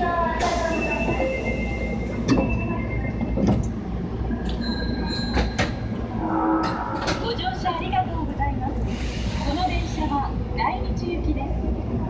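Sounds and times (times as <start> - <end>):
subway train low rumble: 0.0 - 12.0.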